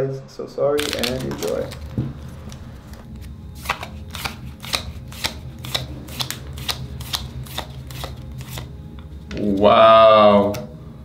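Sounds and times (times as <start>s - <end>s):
trading cards flipping: 0.8s - 9.7s.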